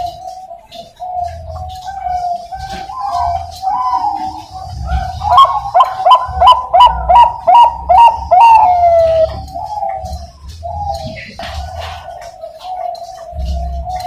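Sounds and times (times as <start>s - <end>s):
dove singing: 0.0s - 14.0s.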